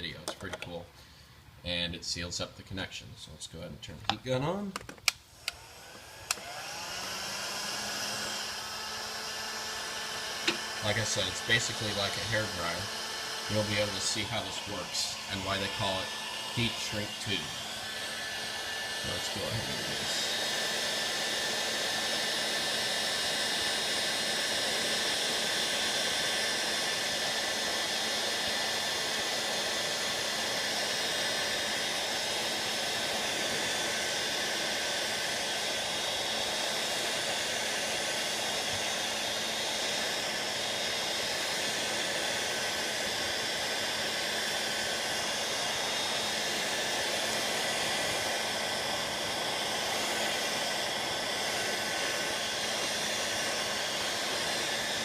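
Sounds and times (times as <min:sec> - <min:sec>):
heat gun blowing: 0:04.5 - 0:55.0.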